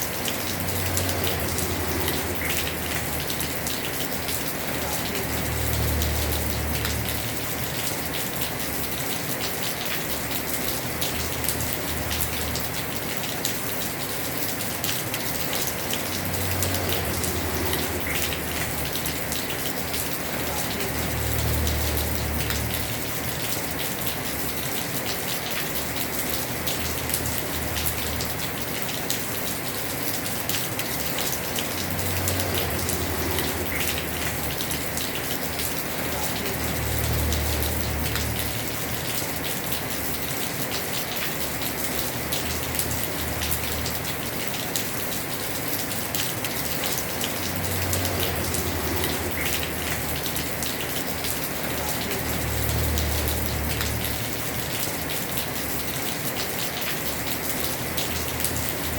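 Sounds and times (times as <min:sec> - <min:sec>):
heavy rain on a roof: 0:00.0 - 0:58.9.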